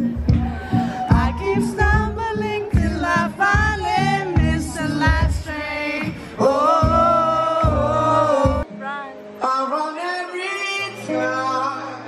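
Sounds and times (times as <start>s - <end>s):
band playing: 0.0s - 12.0s
man singing into a microphone: 0.8s - 8.7s, 9.4s - 12.0s.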